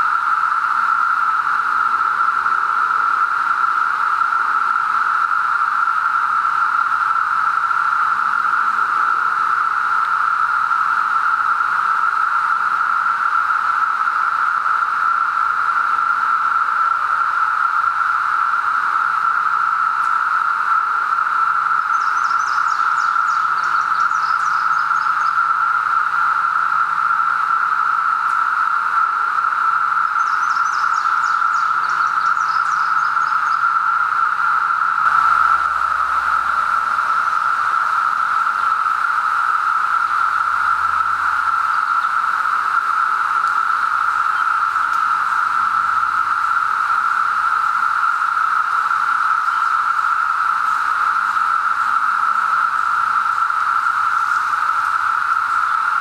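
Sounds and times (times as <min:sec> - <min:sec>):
cicadas chorus humming: 0:00.0 - 0:56.0.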